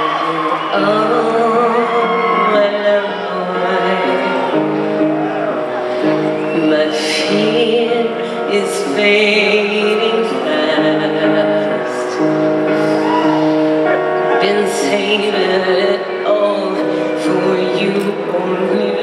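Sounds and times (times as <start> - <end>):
woman singing with vibrato: 0.0 - 19.0.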